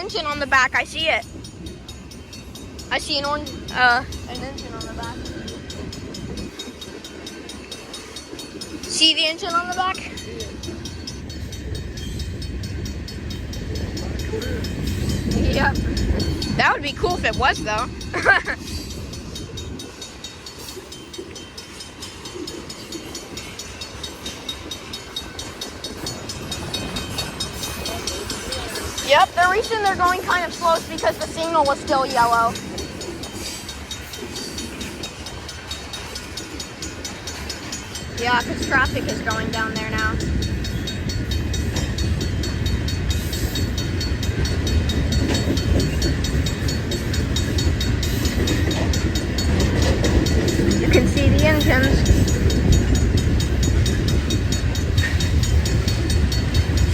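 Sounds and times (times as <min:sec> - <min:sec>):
crossing bell ringing: 0:00.0 - 0:56.9
train rumbling: 0:00.0 - 0:56.9
train wheels clicking: 0:00.0 - 0:56.9.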